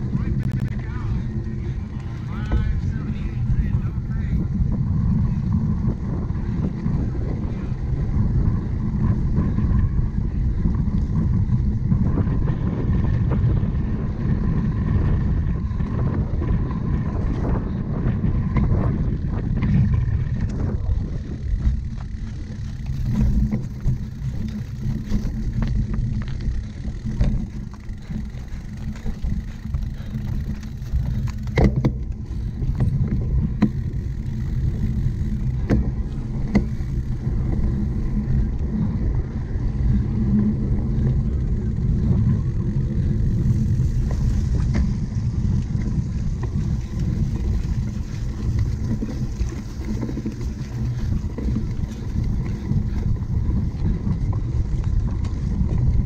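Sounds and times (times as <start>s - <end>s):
bike rattling over rough ground: 0.0s - 56.0s
wind rumbling on microphone: 0.0s - 56.0s.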